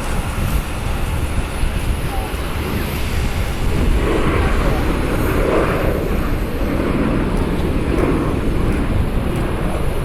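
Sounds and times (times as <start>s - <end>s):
jet engine noise: 0.0s - 10.0s.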